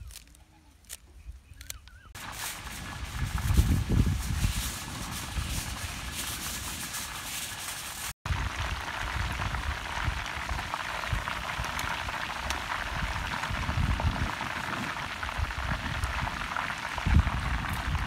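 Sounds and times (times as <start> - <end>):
chicken deep-frying in oil: 2.1 - 18.0.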